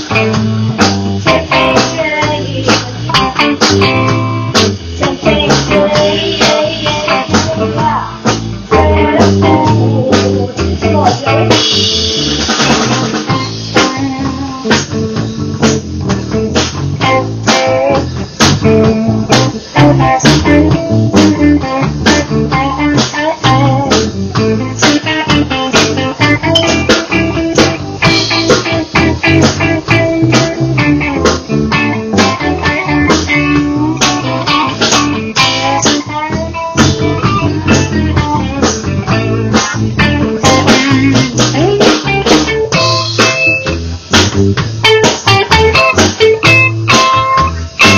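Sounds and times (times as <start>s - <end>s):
drum kit: 0.0s - 47.9s
electric bass: 0.0s - 47.9s
electric guitar: 0.0s - 47.9s.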